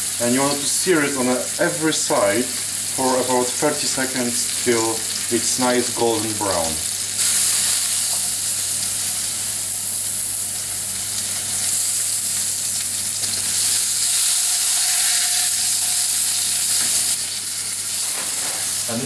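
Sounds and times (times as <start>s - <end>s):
meat sizzling in frying pan: 0.0s - 19.0s.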